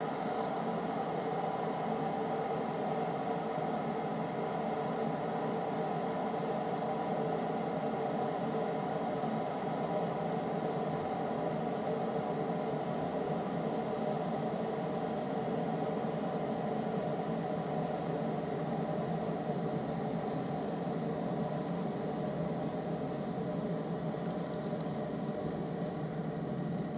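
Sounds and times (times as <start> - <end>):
mechanical hum: 0.0 - 26.9.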